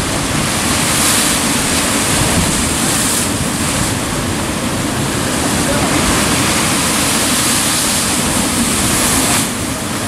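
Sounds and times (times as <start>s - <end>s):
surf breaking against rocks: 0.0s - 10.0s
wind on microphone: 0.0s - 10.0s.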